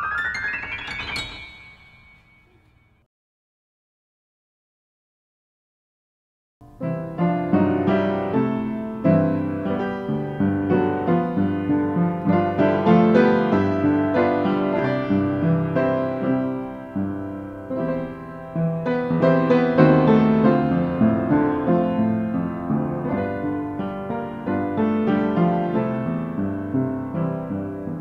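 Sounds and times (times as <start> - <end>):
piano music: 0.0 - 3.0, 6.6 - 28.0.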